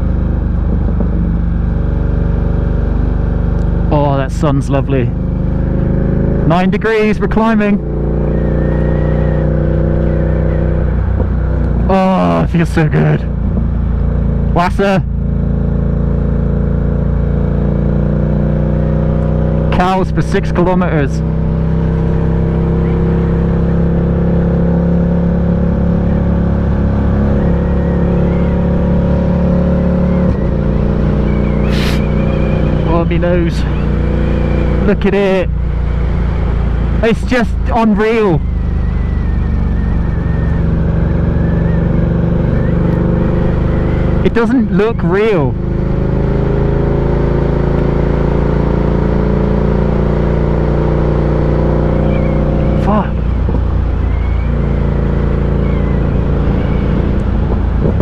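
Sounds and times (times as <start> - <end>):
motorcycle engine at steady speed: 0.0 - 58.0.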